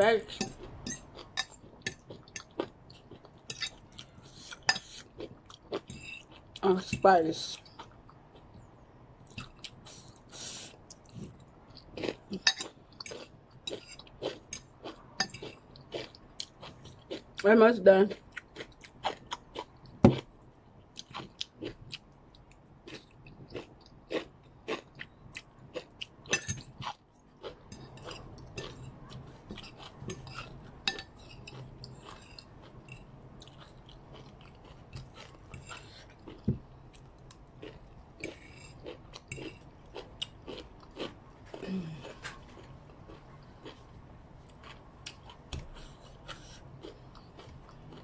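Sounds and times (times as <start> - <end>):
person chewing crunchy food: 0.3 - 6.6, 7.6 - 17.4, 18.1 - 48.0.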